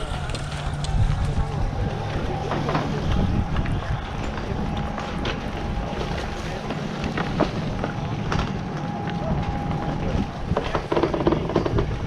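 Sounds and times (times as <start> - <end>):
low rumble of chairlift drive: 0.0 - 12.0
wind buffeting microphone: 0.0 - 12.0.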